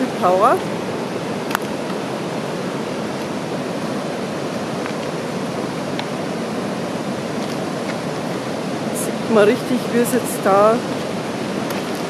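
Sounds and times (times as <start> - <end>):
river rushing with steady roar: 0.0 - 12.0.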